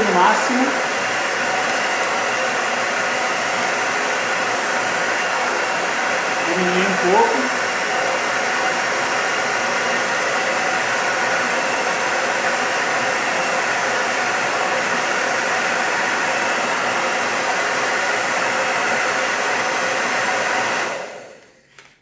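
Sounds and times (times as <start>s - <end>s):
hair dryer running: 0.0s - 21.7s.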